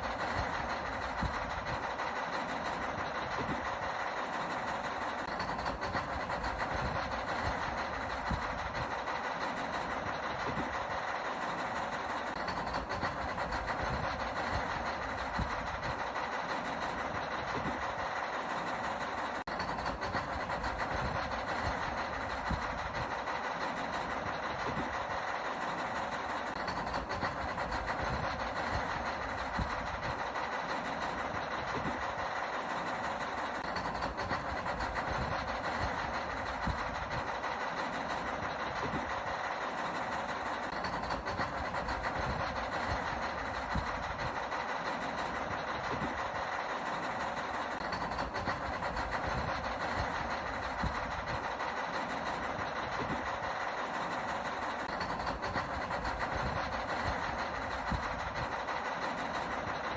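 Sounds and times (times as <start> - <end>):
toy motors whirring and rattling: 0.0 - 59.9.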